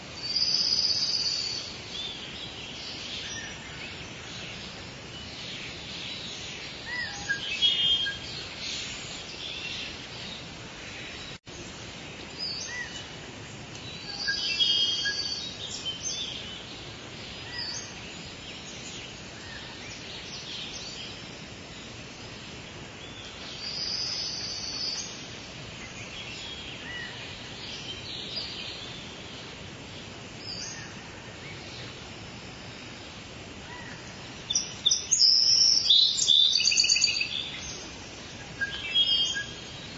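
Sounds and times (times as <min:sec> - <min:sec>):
birds chirping: 0:00.0 - 0:39.9
steady rain falling: 0:00.0 - 0:39.9.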